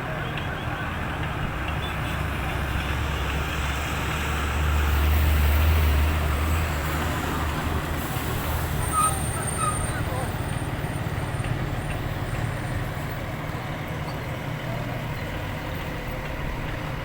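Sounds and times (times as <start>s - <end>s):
motor vehicle rumble: 0.0s - 17.0s
outdoor noise: 0.0s - 17.0s.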